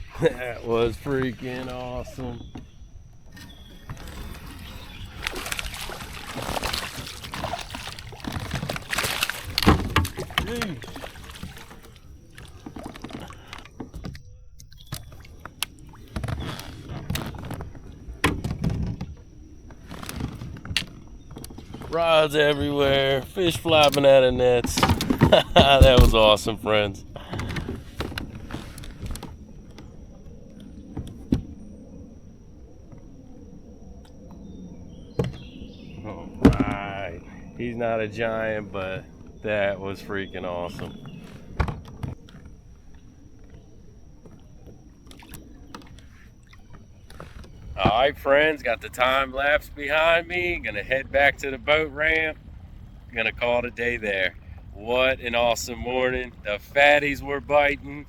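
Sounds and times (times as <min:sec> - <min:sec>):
water splashing around a kayak: 0:00.0 - 0:58.0.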